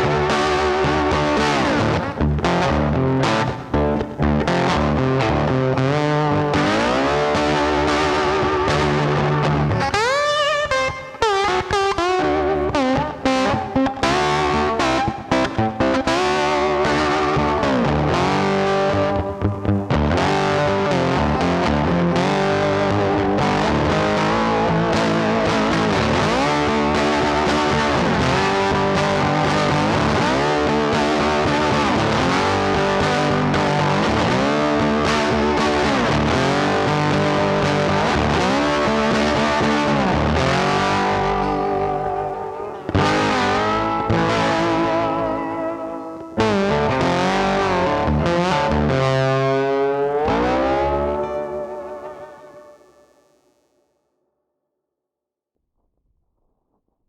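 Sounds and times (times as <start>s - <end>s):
distorted electric guitar: 0.0s - 53.5s.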